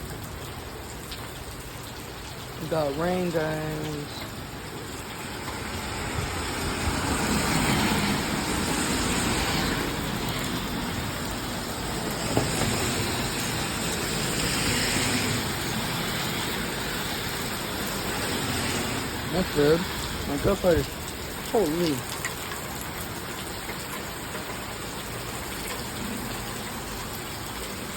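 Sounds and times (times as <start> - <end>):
heavy rain hiss: 2.4 - 27.9.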